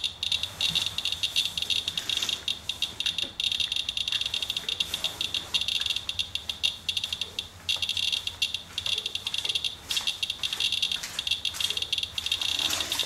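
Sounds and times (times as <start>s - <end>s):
geiger counter chirping rapidly: 0.0s - 13.0s.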